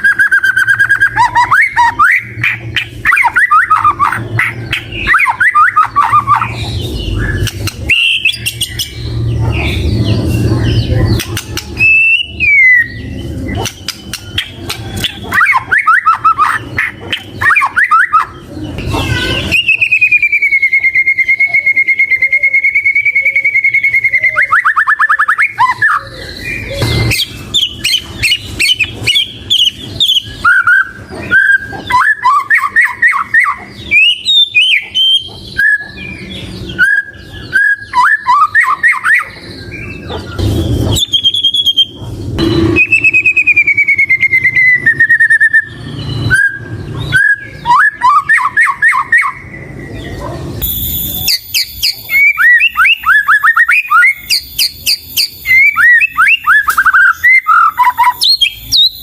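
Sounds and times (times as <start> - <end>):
bird singing whistled phrases: 0.0 - 18.4, 19.0 - 40.3, 40.9 - 49.8, 51.1 - 59.0.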